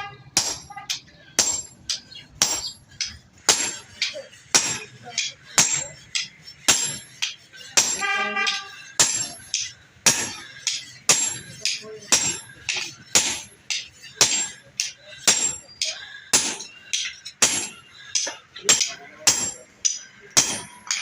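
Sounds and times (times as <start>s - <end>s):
hammer striking metal on anvil: 0.0s - 21.0s.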